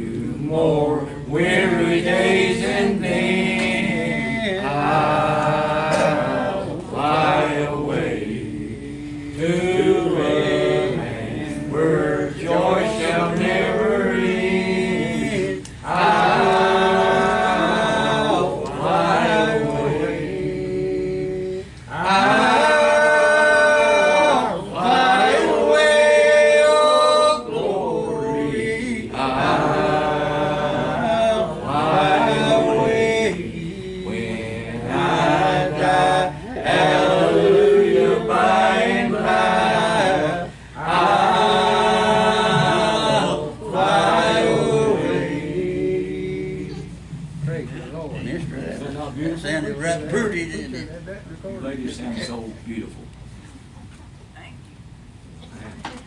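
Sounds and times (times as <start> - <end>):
group singing a hymn: 0.0 - 47.8.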